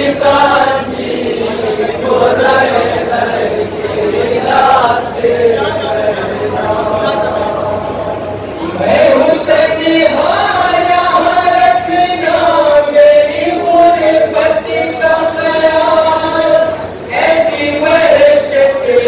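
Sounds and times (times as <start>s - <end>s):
men chanting a lament: 0.0s - 19.0s.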